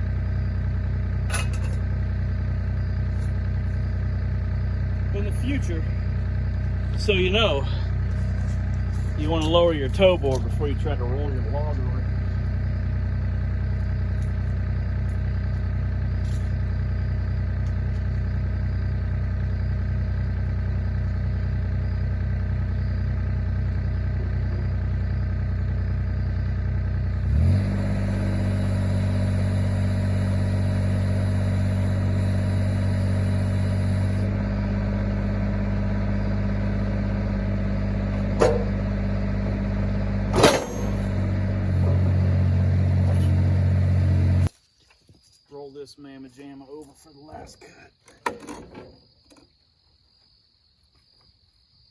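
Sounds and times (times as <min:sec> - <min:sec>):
engine running: 0:00.0 - 0:44.5.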